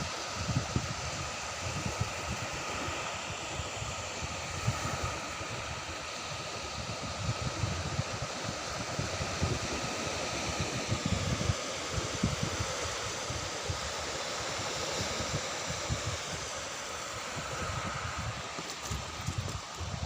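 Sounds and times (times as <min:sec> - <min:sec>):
surf rushing on beach: 0:00.0 - 0:20.0
wind buffeting microphone: 0:00.0 - 0:20.0.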